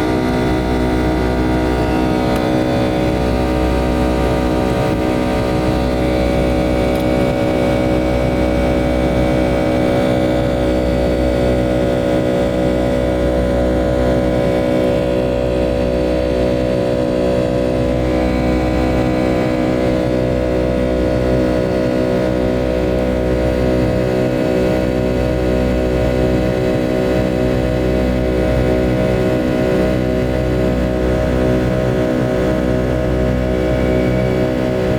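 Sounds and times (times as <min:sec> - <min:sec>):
jet engines droning: 0:00.0 - 0:34.9.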